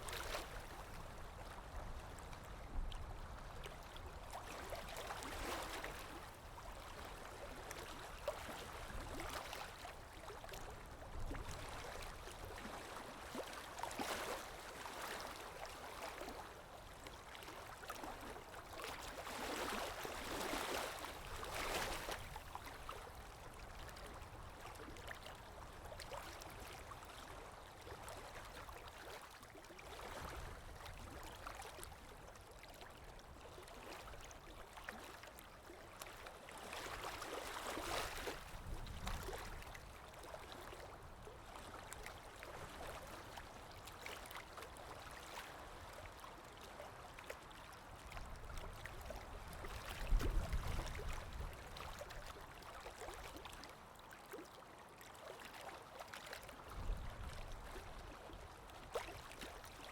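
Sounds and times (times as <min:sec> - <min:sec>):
small water splashes: 0:00.0 - 0:02.3, 0:03.4 - 0:59.9
water lapping: 0:00.0 - 0:59.9
wind: 0:00.0 - 0:59.9.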